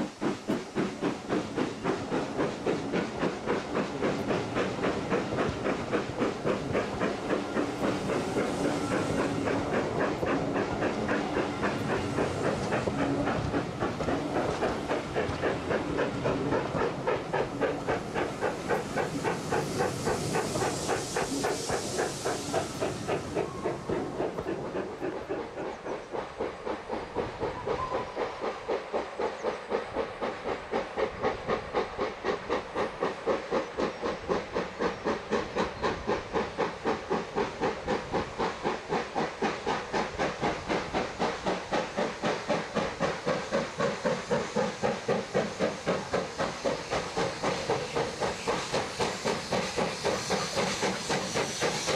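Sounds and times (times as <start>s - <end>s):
steam hissing: 0.0s - 51.9s
steam locomotive chuffing: 0.0s - 51.9s.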